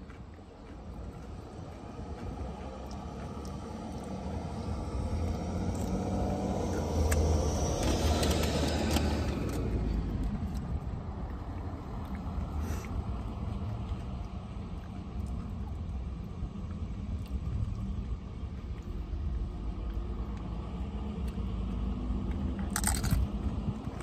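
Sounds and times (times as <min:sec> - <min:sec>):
passing vehicle low rumble: 0:00.0 - 0:24.0.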